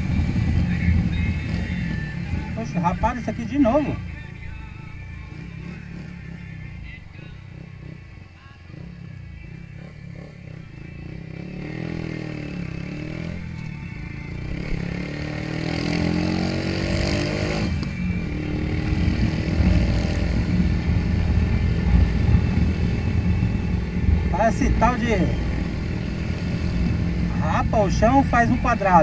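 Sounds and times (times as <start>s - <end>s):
motorcycle engine accelerating: 0.0s - 29.0s
wind and road noise: 0.0s - 29.0s.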